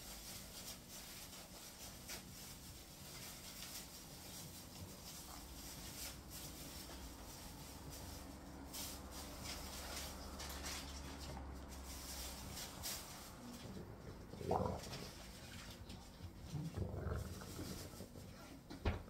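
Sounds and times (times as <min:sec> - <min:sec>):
puppy rustling on blanket: 0:00.0 - 0:18.6.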